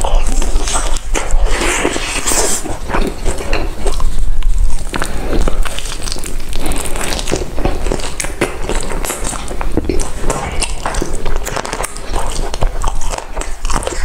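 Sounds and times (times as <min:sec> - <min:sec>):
crunching and wet chewing: 0:00.0 - 0:14.0
sharp crackles: 0:00.0 - 0:14.0.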